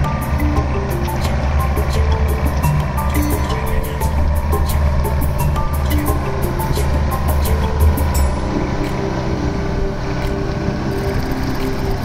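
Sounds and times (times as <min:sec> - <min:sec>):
steady percussive beat: 0:00.0 - 0:10.4
held synthesizer notes: 0:00.0 - 0:12.0.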